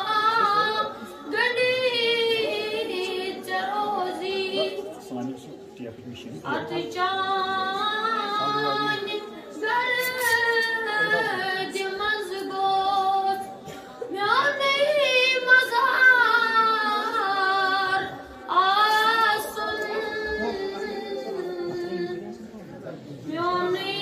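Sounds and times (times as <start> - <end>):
boy singing devotional song: 0.0 - 5.3, 6.4 - 22.5, 23.2 - 24.0.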